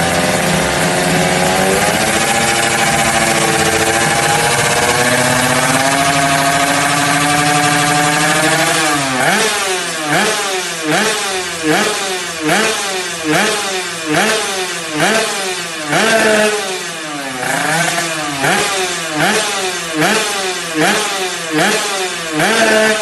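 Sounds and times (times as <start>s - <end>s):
two-stroke engine revving: 0.0s - 23.0s.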